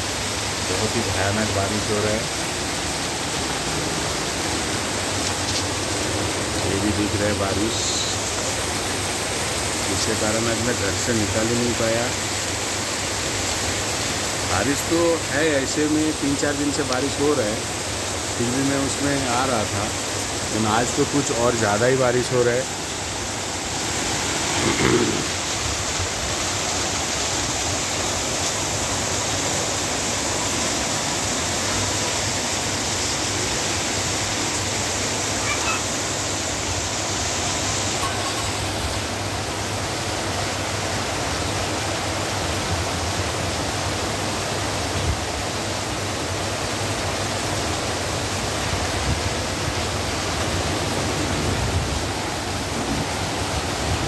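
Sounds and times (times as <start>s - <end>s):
torrential rain pouring: 0.0s - 54.0s.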